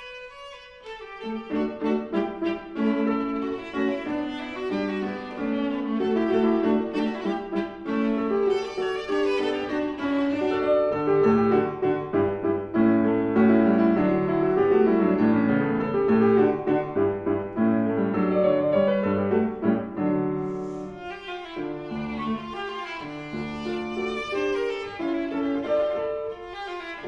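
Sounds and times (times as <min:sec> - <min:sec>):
piano: 0:00.0 - 0:27.0
viola: 0:00.0 - 0:27.0.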